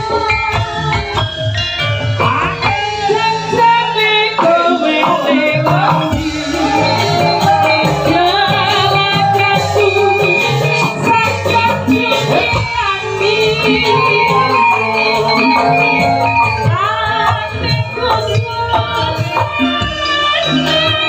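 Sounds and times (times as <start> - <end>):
drumming: 0.0 - 21.0
instrumental tones: 1.6 - 21.0.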